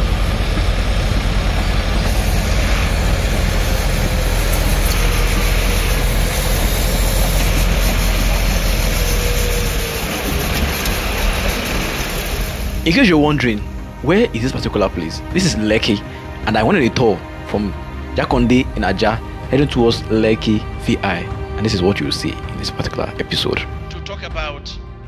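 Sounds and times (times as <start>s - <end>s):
diesel engine rumble: 0.0s - 23.9s.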